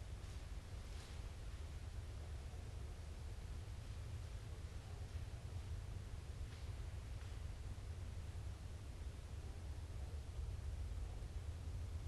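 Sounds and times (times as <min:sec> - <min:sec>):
low rumble with faint hiss: 0:00.0 - 0:12.0.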